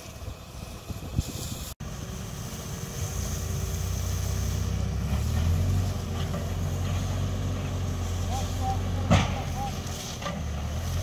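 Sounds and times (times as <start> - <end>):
water jet hissing: 0.0 - 11.0
truck engine running: 1.8 - 11.0.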